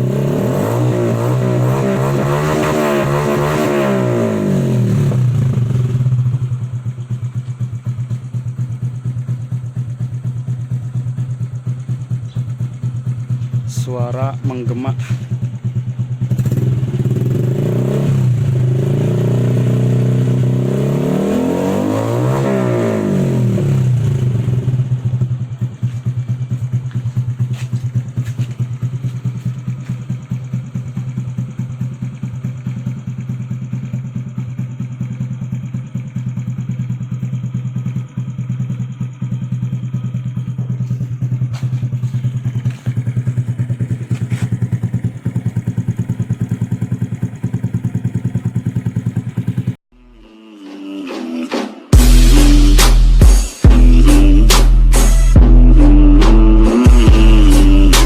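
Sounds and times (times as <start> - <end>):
motorcycle engine revving and idling: 0.0 - 49.9, 51.9 - 58.0.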